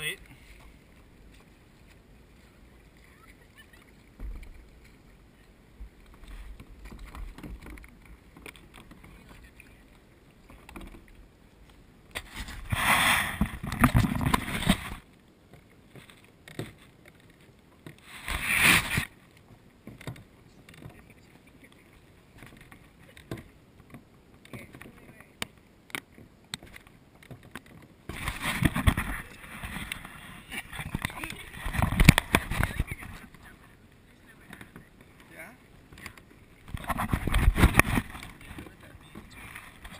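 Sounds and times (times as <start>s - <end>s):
soft paddle strokes: 0.0s - 39.9s
water lapping: 0.0s - 39.9s.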